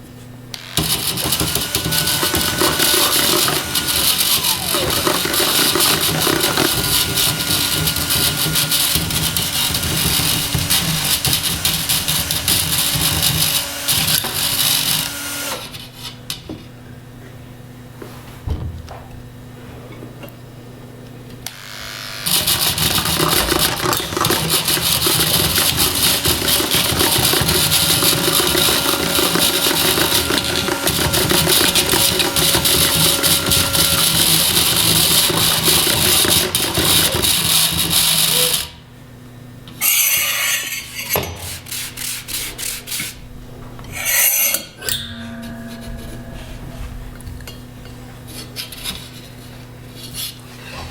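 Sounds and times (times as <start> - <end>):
loud rough continuous noise: 0.0 - 50.9.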